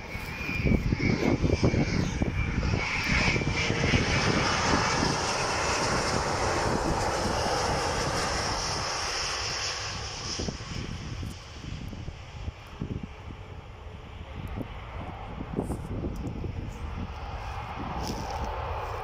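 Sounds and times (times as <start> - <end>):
jet airliner engines roaring: 0.0 - 19.0
wind buffeting microphone: 0.0 - 19.0.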